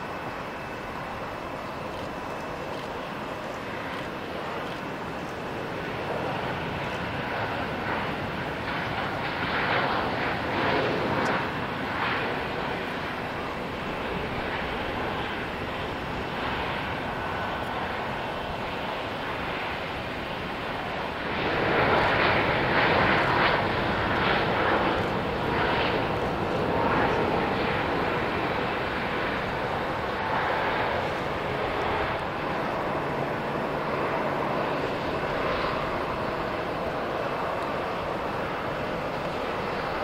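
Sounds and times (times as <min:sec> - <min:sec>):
jet engine noise: 0:00.0 - 0:40.0.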